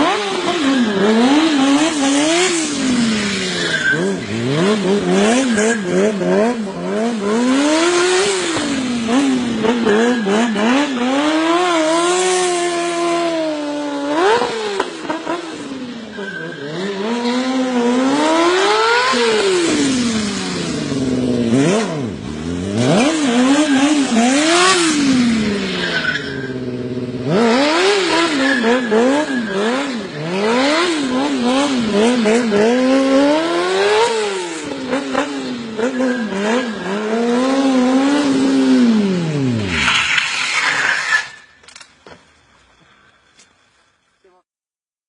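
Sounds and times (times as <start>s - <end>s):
motorcycle engine revving: 0.0s - 41.4s
tyre and road noise: 0.0s - 44.1s.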